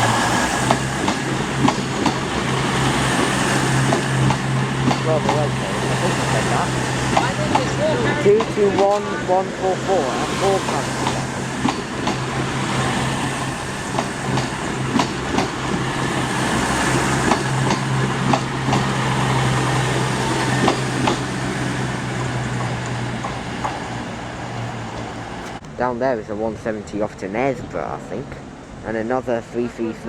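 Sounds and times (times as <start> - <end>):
wheels clicking over track: 0.0 - 25.8
train diesel engines humming: 0.0 - 30.0
train running noise: 0.0 - 30.0.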